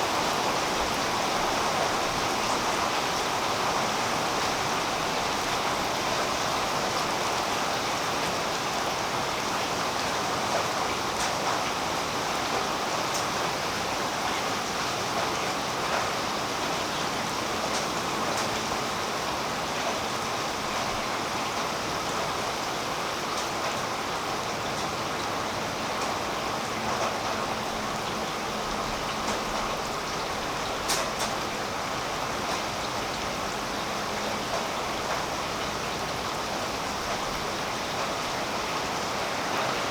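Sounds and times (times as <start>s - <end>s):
rain falling on a tree: 0.0s - 39.9s.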